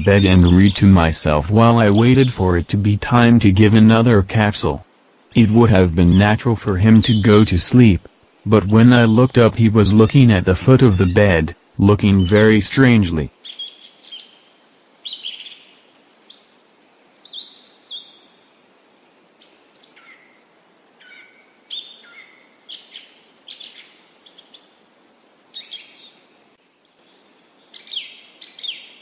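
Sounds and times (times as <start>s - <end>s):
birds singing: 0.0s - 20.3s, 21.0s - 24.7s, 25.5s - 29.0s.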